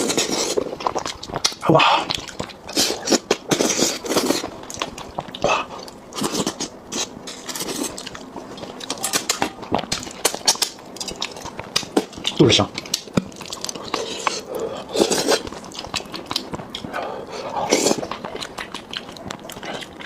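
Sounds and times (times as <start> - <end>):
chewing and biting: 0.0 - 20.0.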